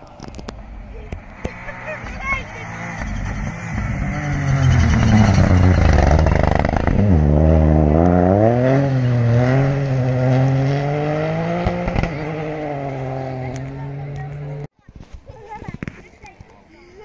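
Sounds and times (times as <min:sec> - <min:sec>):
rally car engine revving: 0:00.4 - 0:14.7.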